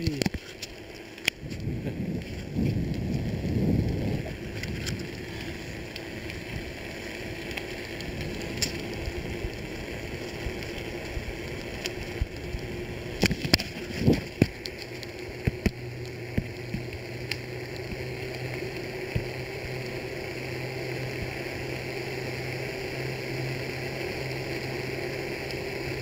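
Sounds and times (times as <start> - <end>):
bicycle tyres on wet track: 0.0 - 26.0
rain hissing: 0.0 - 26.0.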